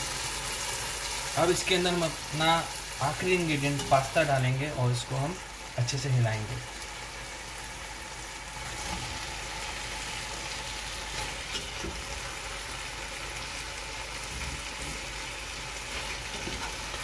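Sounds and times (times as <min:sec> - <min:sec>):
tomato sauce sizzling in a pot: 0:00.0 - 0:17.0.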